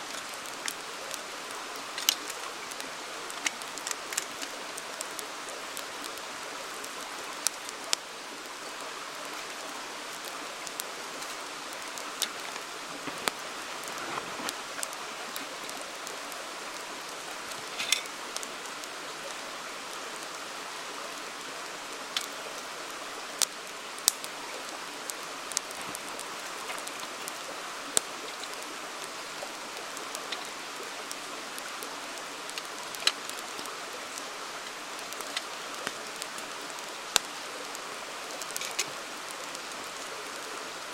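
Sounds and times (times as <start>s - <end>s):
campfire crackling and popping: 0.0s - 40.9s
river flowing: 0.0s - 40.9s.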